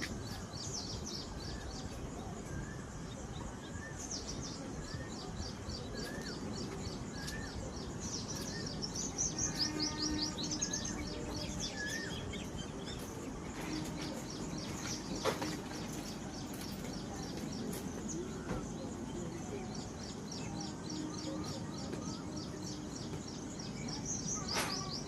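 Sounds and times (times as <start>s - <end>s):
outdoor background hiss: 0.0s - 25.0s
songbirds chirping: 0.0s - 25.0s.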